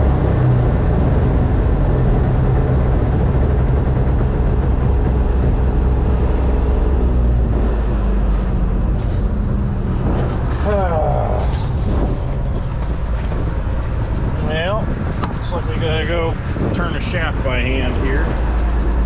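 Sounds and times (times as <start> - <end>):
combine harvester engine drone: 0.0 - 19.0
machinery noise: 0.0 - 19.0.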